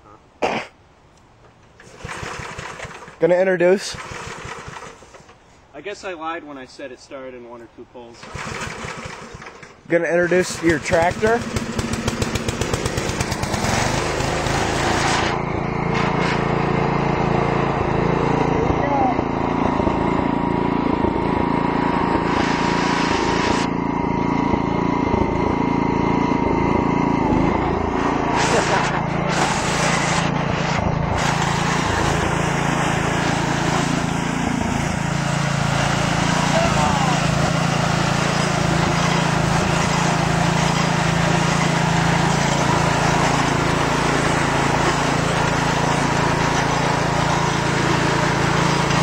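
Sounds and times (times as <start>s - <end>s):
lawn tractor engine running: 1.4s - 5.5s, 8.2s - 49.0s.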